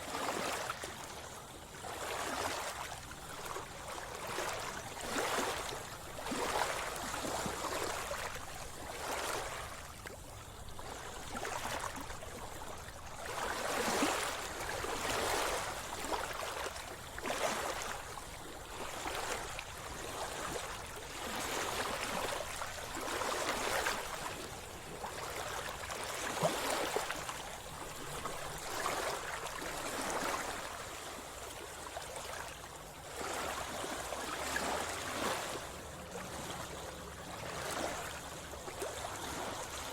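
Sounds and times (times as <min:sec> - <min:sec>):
sea water splashing and gurgling: 0:00.0 - 0:39.9.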